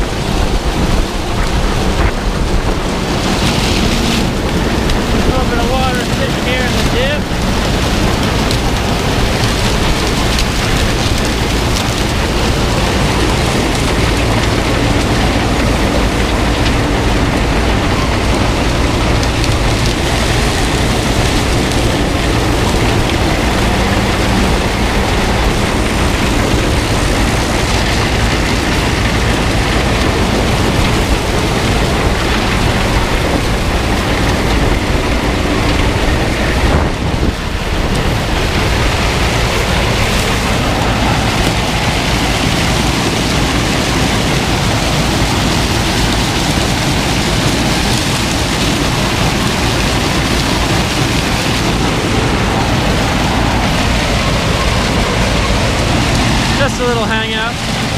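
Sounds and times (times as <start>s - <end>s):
combine harvester running: 0.0s - 57.9s.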